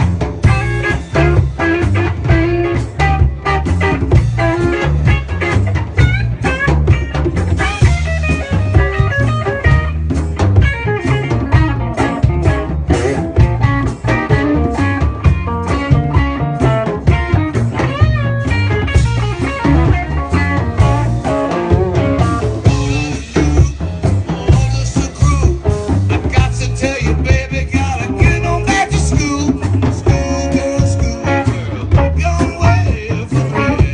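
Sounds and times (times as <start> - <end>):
guitar lines: 0.0 - 33.9
live band playing mambo: 0.0 - 33.9.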